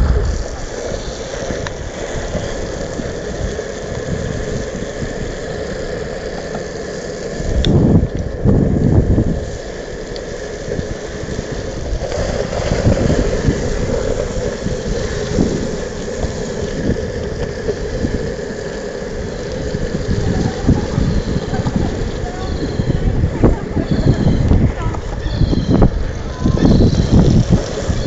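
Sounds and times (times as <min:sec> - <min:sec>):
longboard wheels rolling on wet pavement: 0:00.0 - 0:28.0
wind buffeting microphone: 0:00.0 - 0:28.0.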